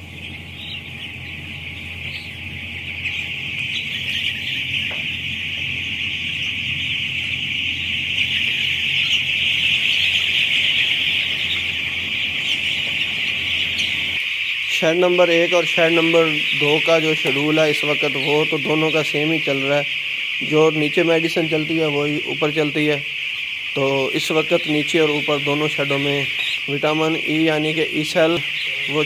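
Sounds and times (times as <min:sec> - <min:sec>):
chicks peeping in chorus: 0:00.0 - 0:29.0
low steady hum: 0:00.0 - 0:29.0.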